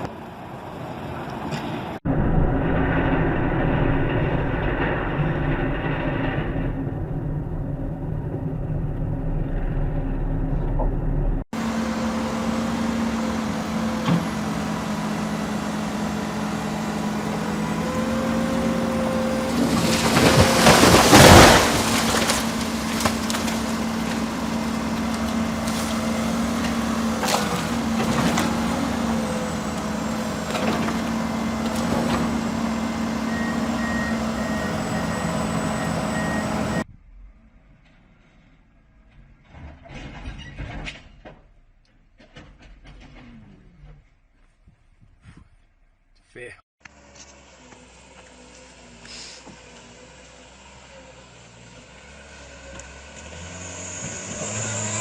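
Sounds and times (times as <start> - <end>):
heavy vehicle engine running: 0.0 - 39.2, 46.8 - 55.0.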